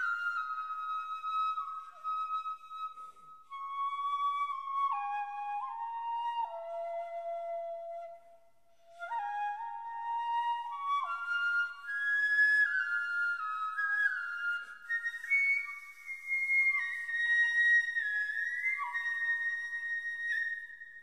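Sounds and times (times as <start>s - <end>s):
bamboo flute melody: 0.0s - 21.0s.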